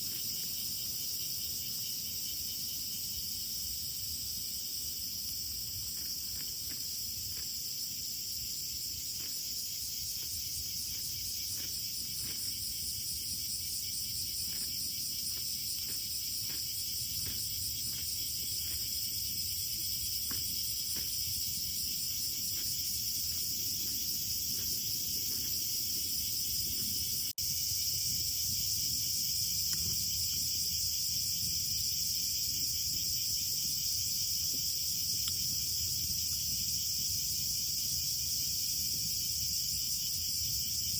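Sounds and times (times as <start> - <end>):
crickets and insects chorus: 0.0 - 40.9.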